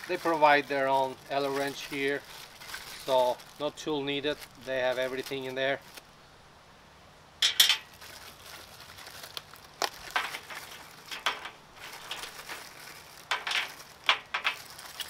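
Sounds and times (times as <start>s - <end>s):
plastic bag crinkling: 0.0s - 6.0s, 7.6s - 15.0s.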